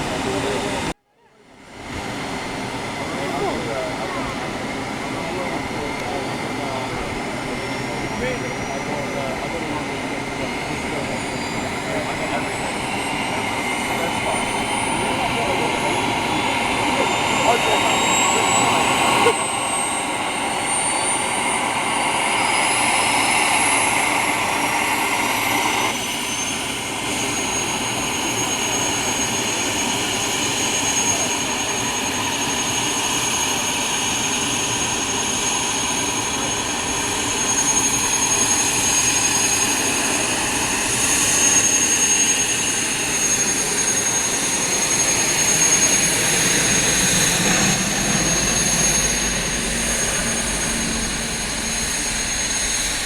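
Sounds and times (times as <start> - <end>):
aircraft engine roar with whine: 0.0 - 53.0.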